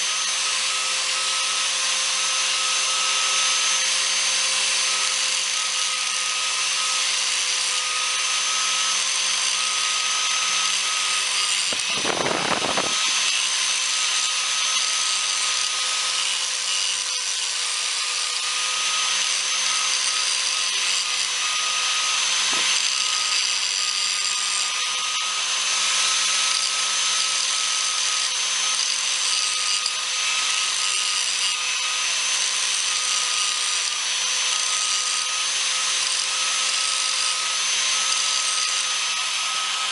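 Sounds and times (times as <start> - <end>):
electric grinder grinding steel: 0.0 - 39.9.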